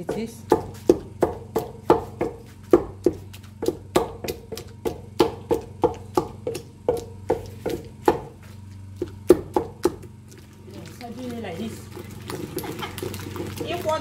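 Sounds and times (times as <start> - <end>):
wooden pestle pounding in mortar: 0.0 - 14.0.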